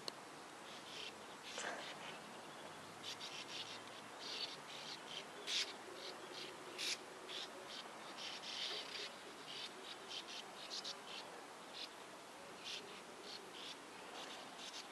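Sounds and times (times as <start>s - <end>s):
birds chirping: 0.6s - 14.9s.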